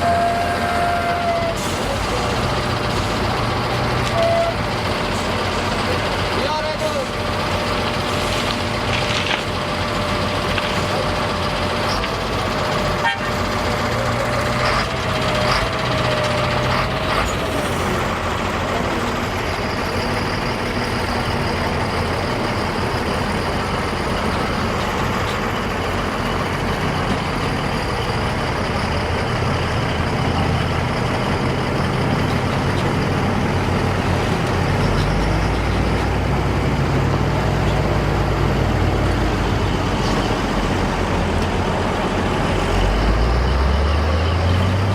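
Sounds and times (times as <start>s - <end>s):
low engine rumble: 0.0s - 44.9s
road traffic noise: 0.0s - 44.9s.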